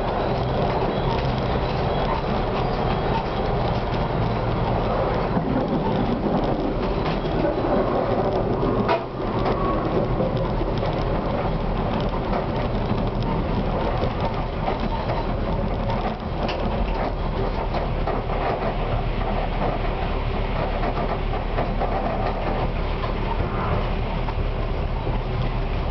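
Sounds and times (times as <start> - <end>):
tram wheels rumbling on rails: 0.0 - 25.9.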